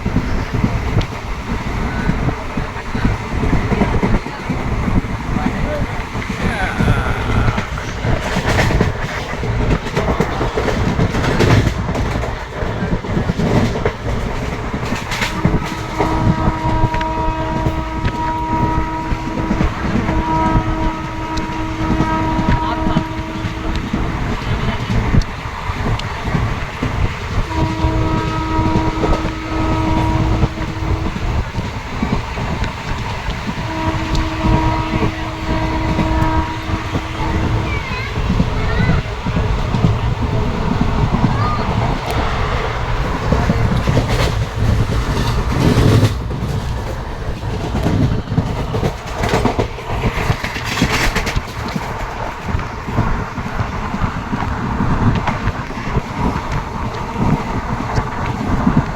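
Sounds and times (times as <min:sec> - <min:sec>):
train rumbling on rails: 0:00.0 - 0:58.9.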